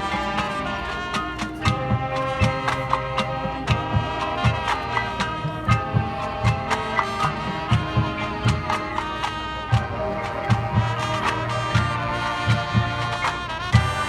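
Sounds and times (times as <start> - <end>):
horns and woodwinds playing: 0.0 - 14.0.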